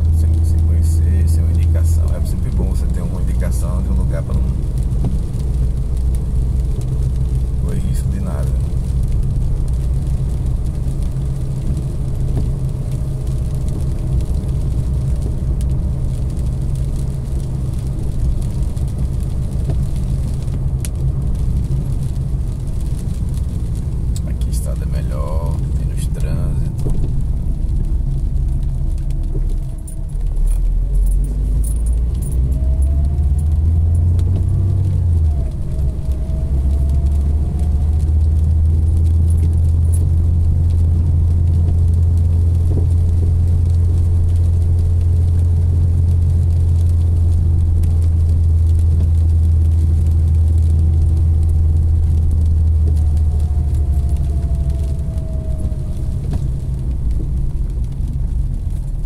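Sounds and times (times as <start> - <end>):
car engine and tyre rumble: 0.0 - 59.0
small clicks and rattles: 8.4 - 59.0.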